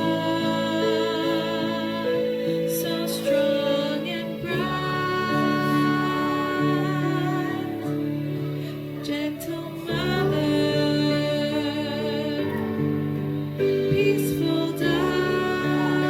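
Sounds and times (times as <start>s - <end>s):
person singing wavering melody: 0.0s - 16.0s
slow hymn music with held chords: 0.0s - 16.0s.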